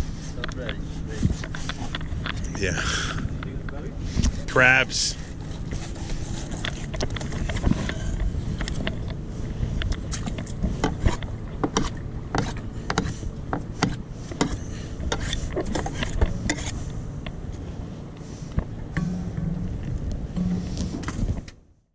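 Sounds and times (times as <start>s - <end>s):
steady low rumble: 0.0s - 21.8s.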